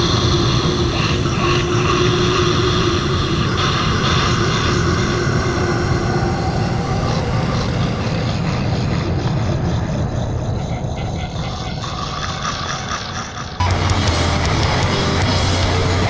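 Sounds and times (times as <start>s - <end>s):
harsh distorted noise drone: 0.0s - 16.0s.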